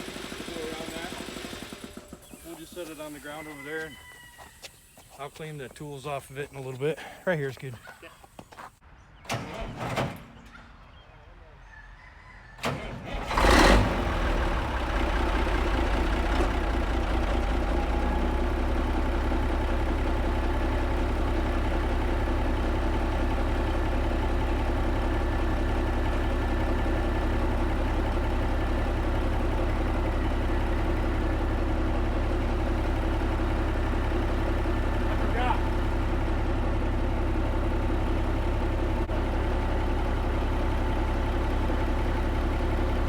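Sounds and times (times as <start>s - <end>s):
diesel engine starting and idling: 0.0s - 4.2s, 12.6s - 43.0s.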